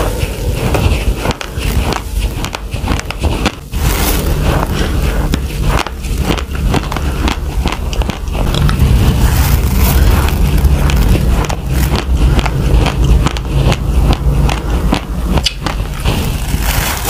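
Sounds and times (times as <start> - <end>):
crunching dry rice: 0.0 - 17.0.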